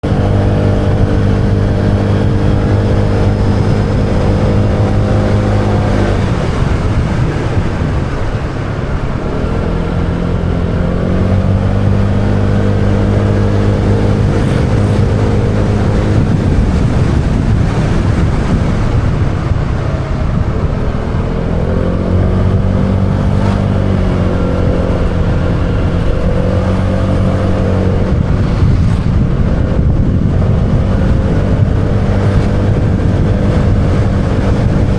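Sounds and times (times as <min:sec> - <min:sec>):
motorbike engine cruising: 0:00.0 - 0:34.9
wind noise rushing: 0:00.0 - 0:34.9.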